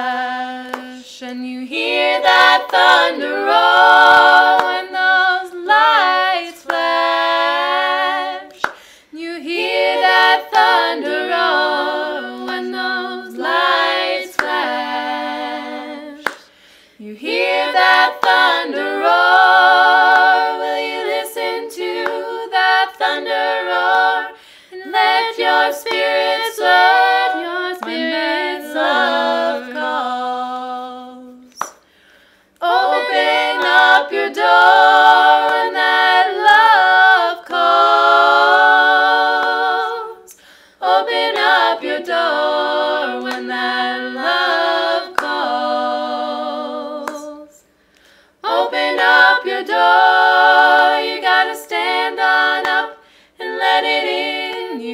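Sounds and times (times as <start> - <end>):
women singing in harmony: 0.0 - 31.8, 32.6 - 54.9.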